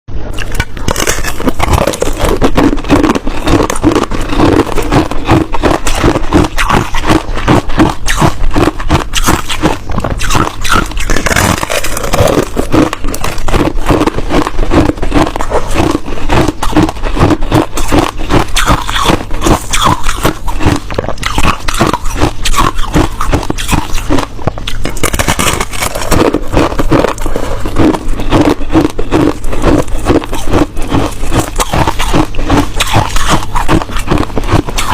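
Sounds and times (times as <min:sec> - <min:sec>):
ice crunching while chewed: 0:00.3 - 0:34.9.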